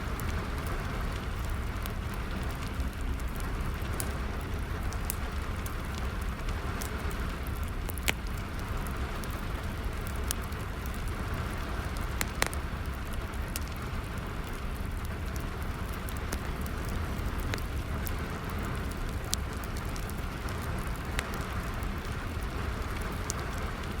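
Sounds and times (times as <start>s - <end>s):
steady rain falling: 0.0s - 24.0s
wood fire crackling and popping: 0.0s - 24.0s.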